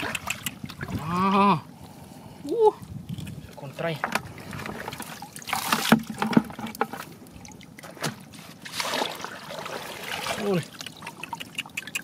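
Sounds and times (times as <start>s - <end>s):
muddy water splashing: 0.0s - 1.9s, 2.8s - 12.0s.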